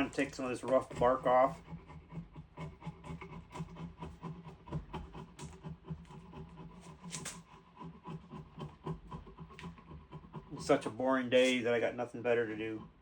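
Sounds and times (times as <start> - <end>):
chisel scraping bark: 0.0 - 13.0.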